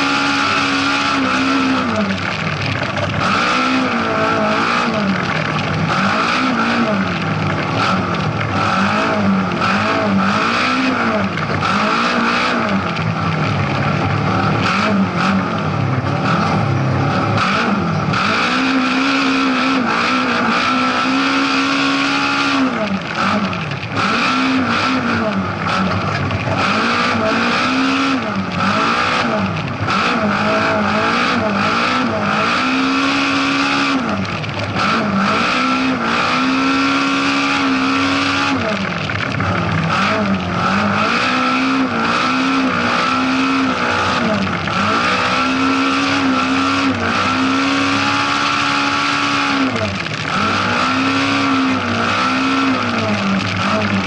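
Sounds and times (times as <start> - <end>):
car rattling and clattering: 0.0 - 54.0
rally car engine revving: 0.0 - 54.0.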